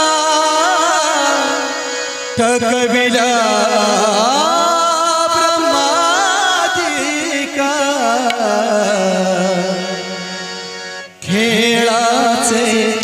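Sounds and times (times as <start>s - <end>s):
man singing devotional folk song: 0.0s - 13.0s.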